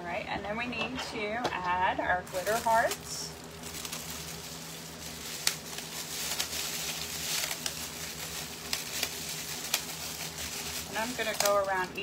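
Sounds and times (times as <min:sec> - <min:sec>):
steady low hum: 0:00.0 - 0:12.0
soft rustling of materials: 0:02.3 - 0:12.0.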